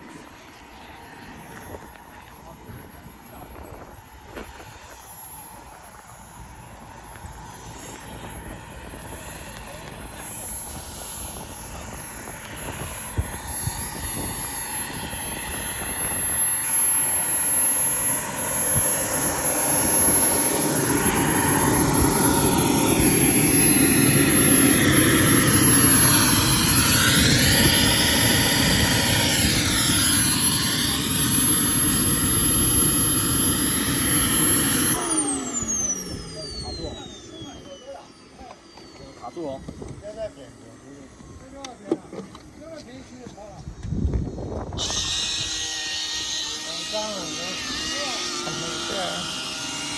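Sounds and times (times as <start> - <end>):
model jet whining: 0.0 - 49.9.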